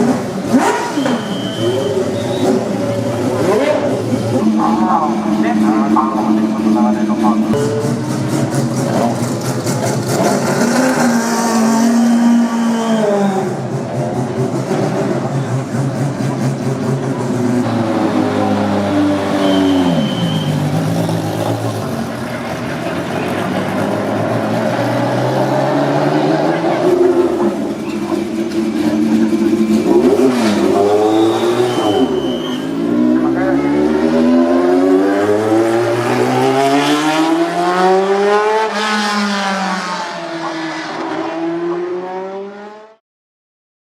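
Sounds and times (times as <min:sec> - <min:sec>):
race car engine revving down: 0:00.0 - 0:43.0.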